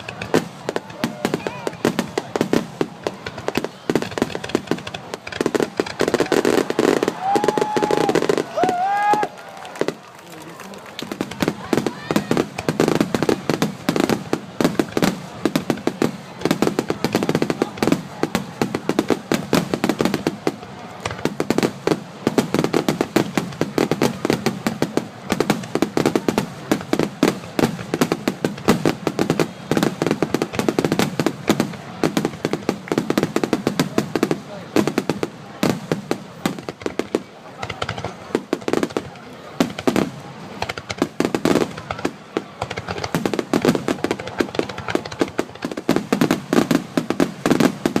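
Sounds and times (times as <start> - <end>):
fireworks bursting: 0.0 - 48.0.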